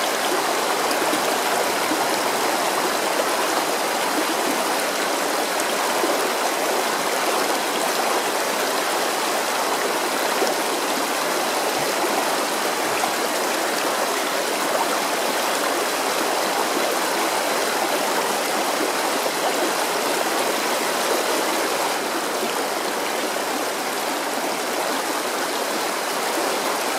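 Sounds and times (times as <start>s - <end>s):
stream babbling over stones: 0.0s - 26.9s.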